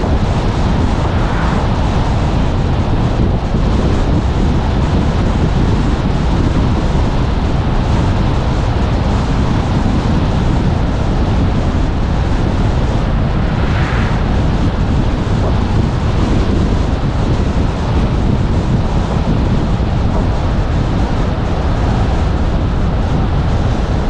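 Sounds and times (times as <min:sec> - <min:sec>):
tyres rumbling on road: 0:00.0 - 0:24.0
wind rushing over microphone: 0:00.0 - 0:24.0.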